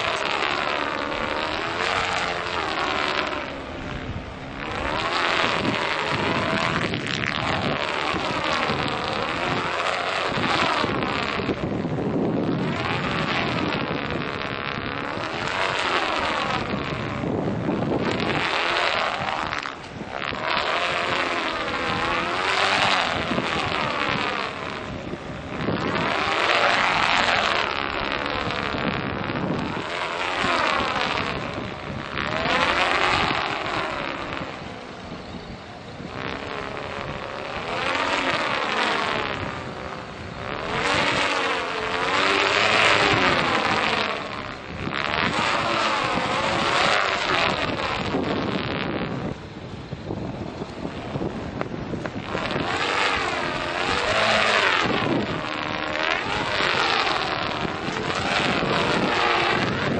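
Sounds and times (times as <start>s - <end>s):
stunt kite whooshing hum: 0.0s - 59.9s
wind rushing over microphone: 0.0s - 59.9s.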